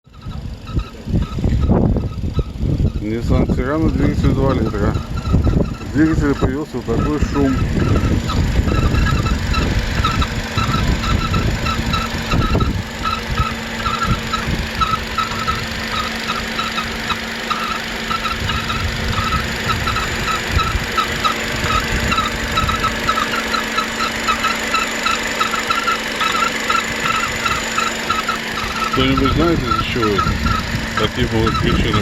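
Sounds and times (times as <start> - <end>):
engine hum: 0.0 - 32.0
high chirping squeal: 0.0 - 32.0.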